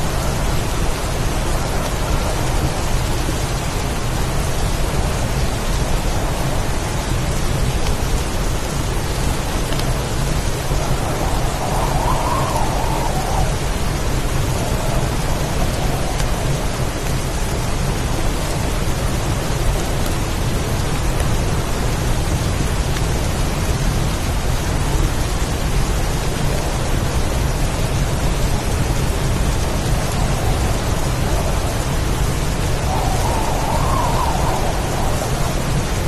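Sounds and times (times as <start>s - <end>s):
heavy rain downpour: 0.0s - 36.0s.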